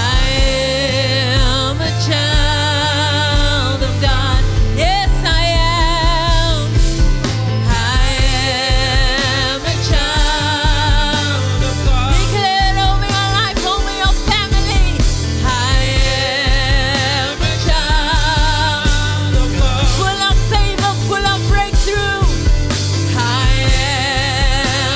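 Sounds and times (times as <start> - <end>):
band with bass and beat: 0.0 - 24.9
person singing with vibrato: 0.0 - 24.9.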